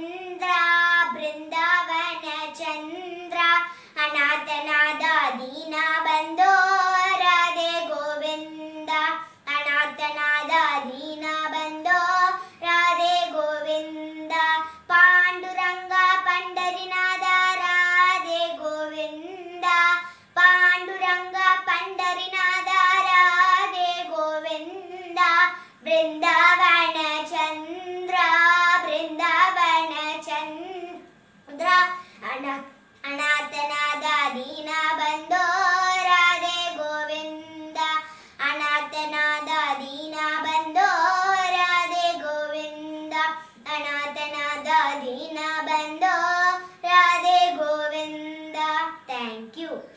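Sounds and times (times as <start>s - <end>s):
girl singing alone: 0.0s - 49.9s.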